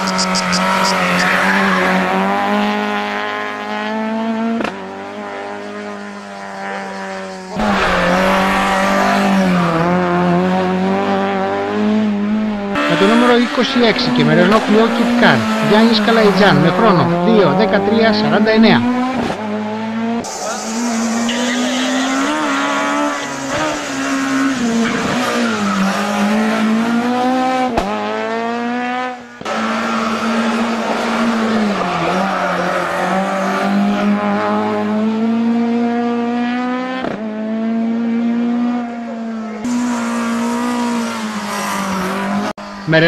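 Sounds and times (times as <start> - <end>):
rally car engine revving hard: 0.0 - 43.0.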